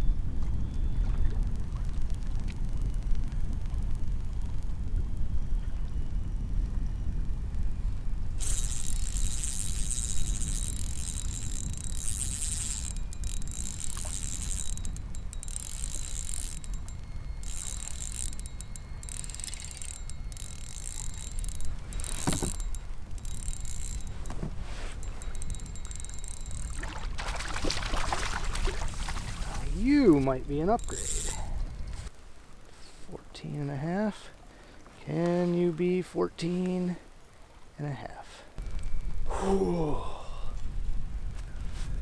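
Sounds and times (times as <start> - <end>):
wind rumbling on microphone: 0.0 - 32.1, 38.6 - 42.0.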